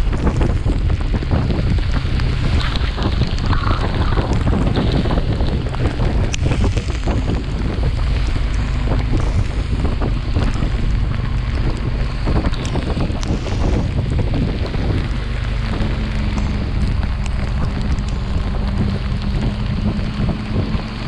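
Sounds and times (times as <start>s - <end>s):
motorcycle engine drone: 0.0s - 21.0s
wind buffeting microphone: 0.0s - 21.0s.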